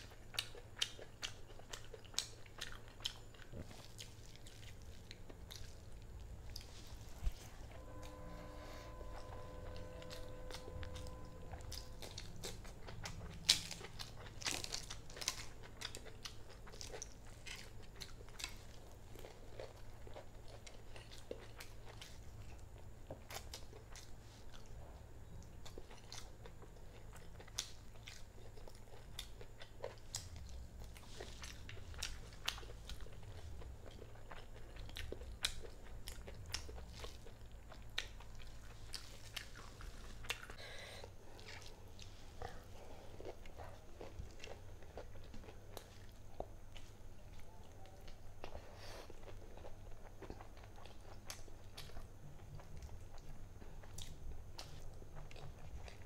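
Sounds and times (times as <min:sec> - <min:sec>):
person chewing and mouth sounds: 0:00.0 - 0:56.0.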